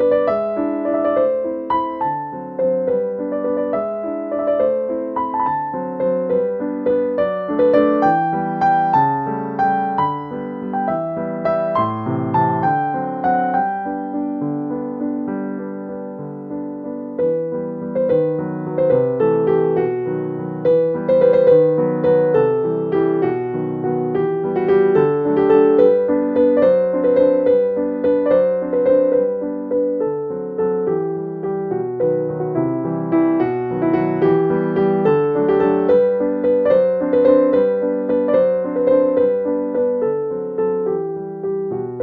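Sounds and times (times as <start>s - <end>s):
piano music: 0.0s - 42.0s.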